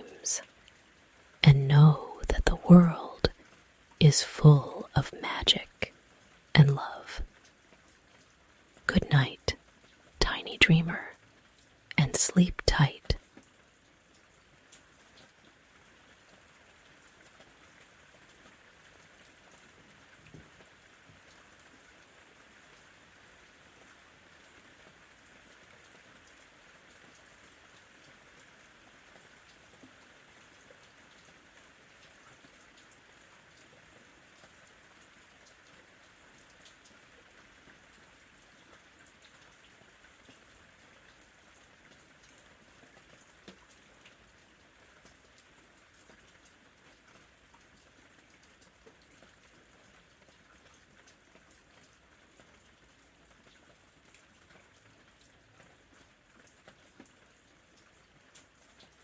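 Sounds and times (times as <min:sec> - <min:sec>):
soft steady rain: 0:00.0 - 0:59.0.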